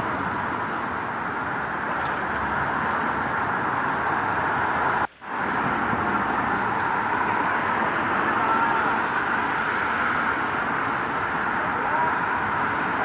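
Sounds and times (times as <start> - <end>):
road traffic: 0.0 - 13.0
steady rain: 0.0 - 13.0.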